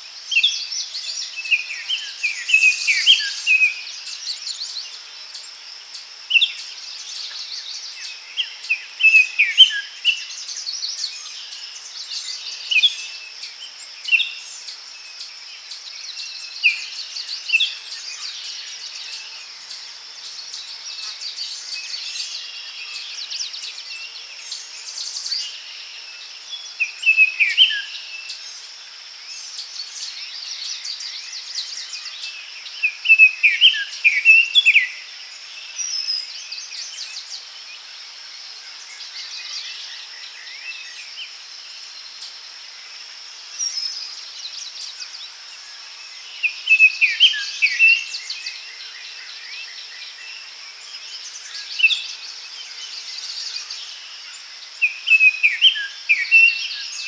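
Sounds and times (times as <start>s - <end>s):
insect drone: 0.0s - 57.0s
songbirds singing: 0.0s - 57.0s.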